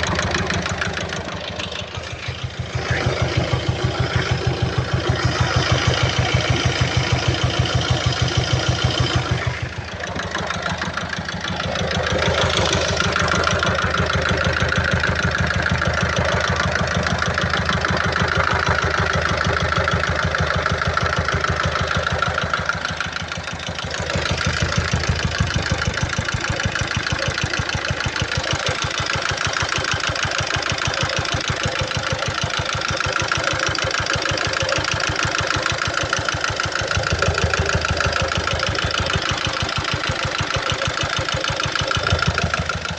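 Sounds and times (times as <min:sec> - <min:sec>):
diesel engine idling with knock: 0:00.0 - 0:42.9.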